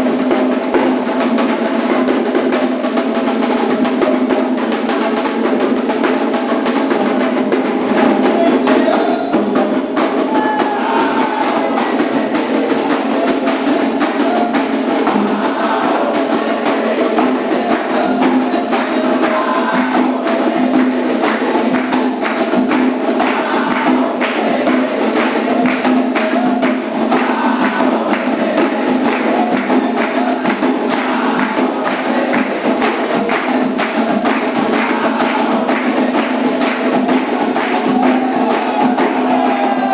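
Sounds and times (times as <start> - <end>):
hand drums: 0.0 - 39.9.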